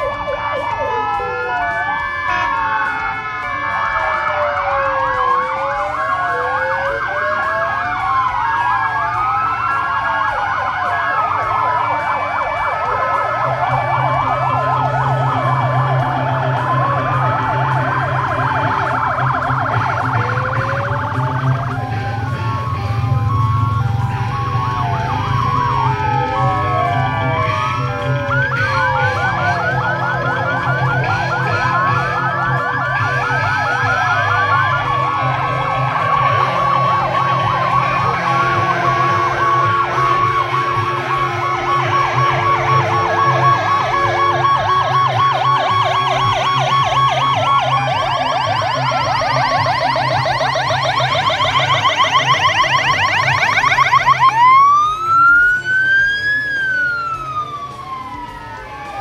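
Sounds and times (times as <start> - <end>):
fire engine sirens wailing: 0.0 - 59.0.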